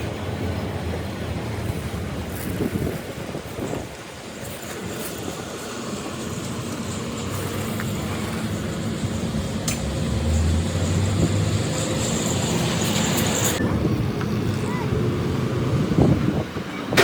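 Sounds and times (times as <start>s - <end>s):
engine humming: 0.0s - 17.0s
wind-like noise: 0.0s - 17.0s.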